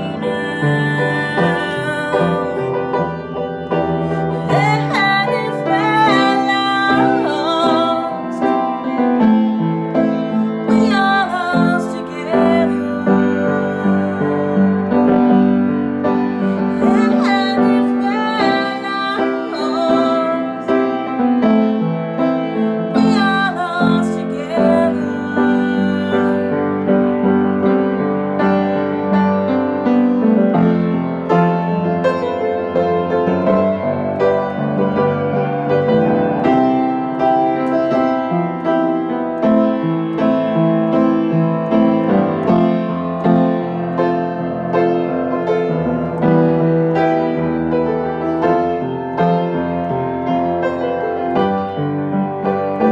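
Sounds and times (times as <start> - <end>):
upright piano playing chords: 0.0 - 52.9.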